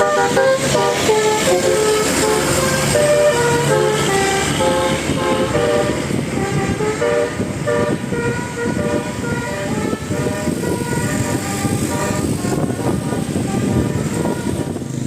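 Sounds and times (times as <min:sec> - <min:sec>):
air horn tune: 0:00.0 - 0:14.8.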